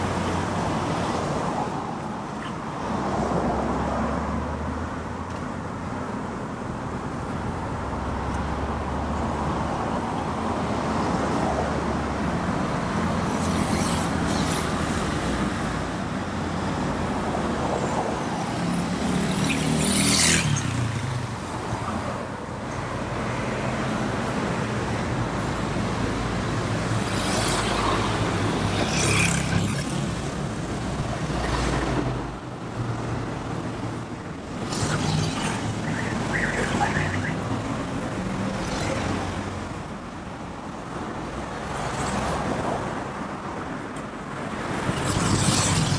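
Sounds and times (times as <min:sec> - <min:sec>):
road traffic: 0:00.0 - 0:45.9
vehicles passing by: 0:00.0 - 0:45.9.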